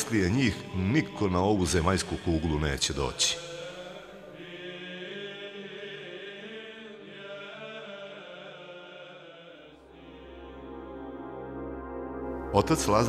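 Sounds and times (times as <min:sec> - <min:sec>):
slow chanting voices: 0:00.0 - 0:13.0.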